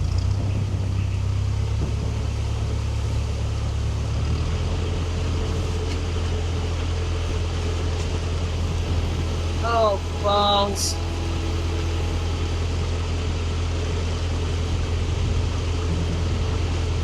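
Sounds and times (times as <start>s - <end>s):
boat diesel engine rumbling: 0.0s - 17.0s.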